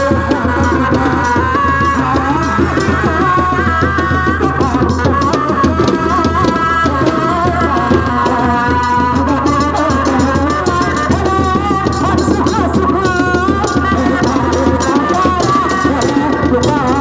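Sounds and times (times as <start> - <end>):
hand drums fast rhythm: 0.0 - 17.0.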